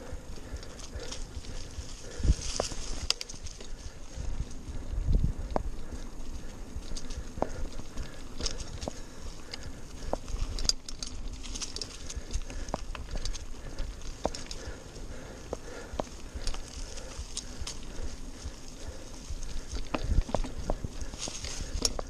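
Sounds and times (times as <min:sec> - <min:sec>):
bike rattling over bumps: 0:00.0 - 0:22.0
sharp ticks: 0:00.0 - 0:22.0
tyres crackling through leaves: 0:00.0 - 0:22.0.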